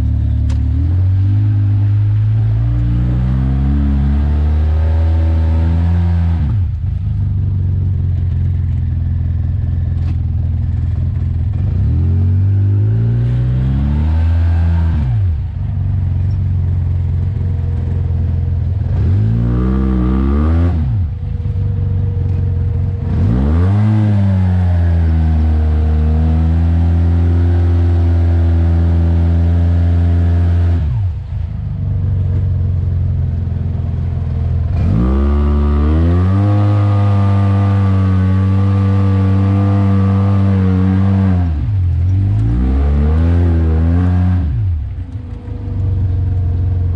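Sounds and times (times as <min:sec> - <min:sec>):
off-road engine revving: 0:00.0 - 0:46.9.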